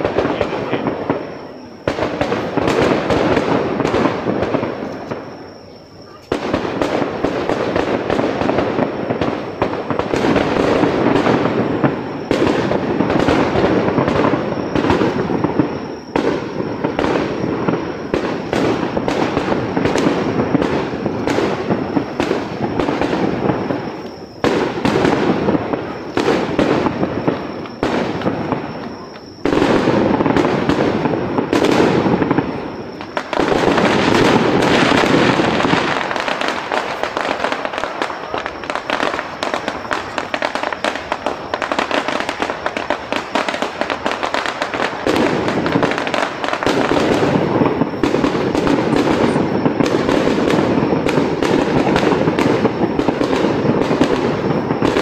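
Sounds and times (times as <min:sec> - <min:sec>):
fireworks bangs and crackle: 0:00.0 - 0:55.0.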